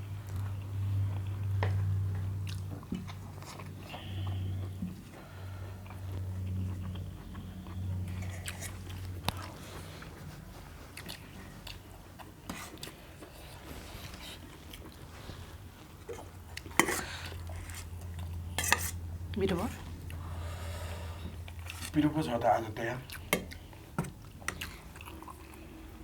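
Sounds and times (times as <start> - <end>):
steady low hum: 0.0 - 26.0
person chewing food: 0.2 - 19.2, 19.8 - 22.0, 22.9 - 26.0.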